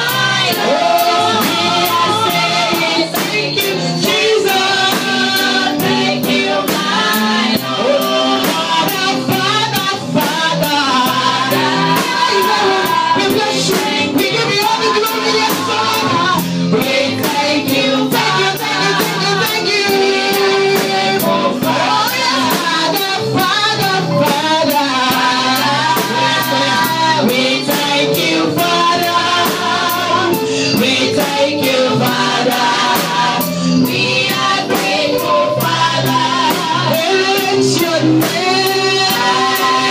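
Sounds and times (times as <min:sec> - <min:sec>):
band playing: 0:00.0 - 0:39.9
drums steady beat: 0:00.0 - 0:39.9
voices singing gospel: 0:00.0 - 0:39.9.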